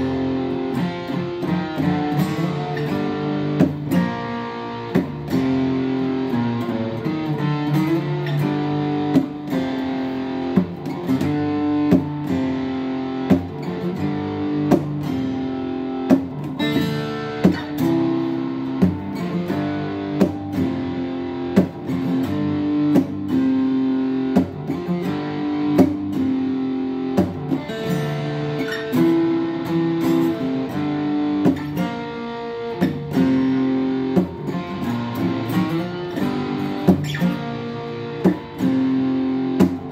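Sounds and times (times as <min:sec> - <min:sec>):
acoustic guitar chords: 0:00.0 - 0:39.9.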